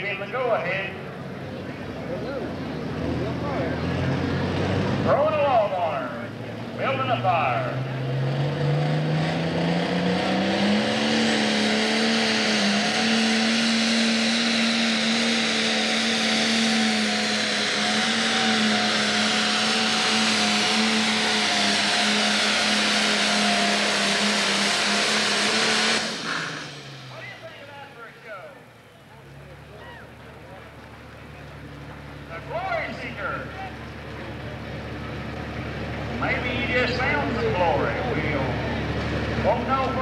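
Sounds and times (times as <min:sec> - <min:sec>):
diesel engine at full throttle: 0:00.0 - 0:40.0.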